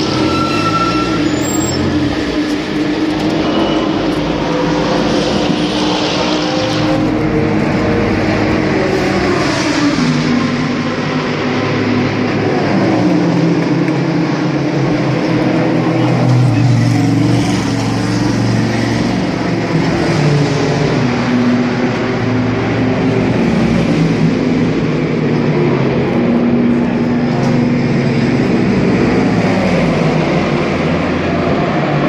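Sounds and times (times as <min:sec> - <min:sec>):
race car engines droning: 0:00.0 - 0:32.0.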